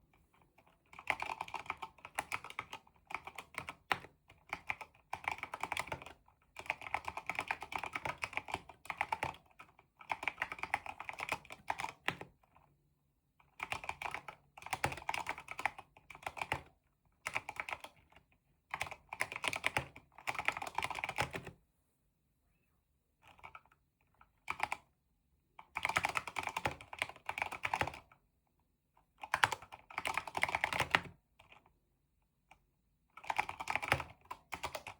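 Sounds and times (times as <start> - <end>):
mechanical keyboard typing: 0.8 - 12.6, 13.5 - 21.5, 23.2 - 24.9, 25.6 - 28.2, 29.2 - 31.7, 33.2 - 34.9.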